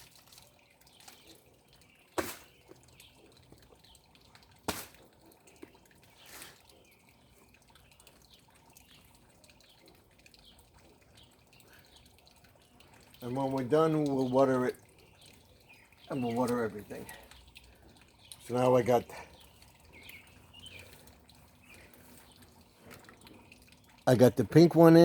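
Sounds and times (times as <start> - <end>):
water dripping and trickling: 0.0 - 25.0.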